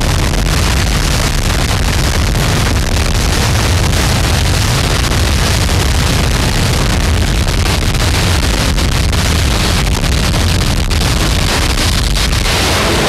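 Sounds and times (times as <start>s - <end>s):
distorted static noise: 0.0s - 13.0s
heavy low rumble: 0.0s - 13.0s.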